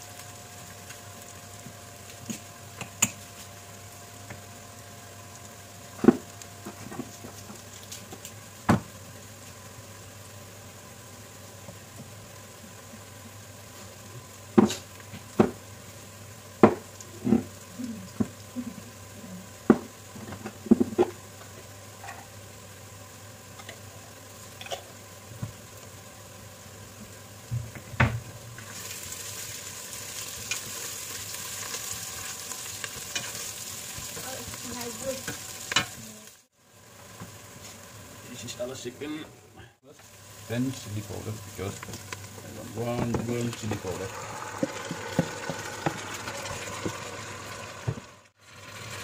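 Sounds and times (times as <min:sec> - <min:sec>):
spices frying in oil: 0:00.0 - 0:49.0.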